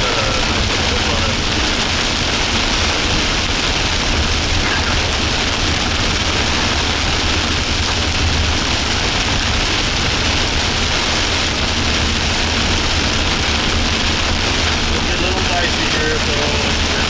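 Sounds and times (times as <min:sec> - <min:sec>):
road and engine noise in vehicle: 0:00.0 - 0:17.0.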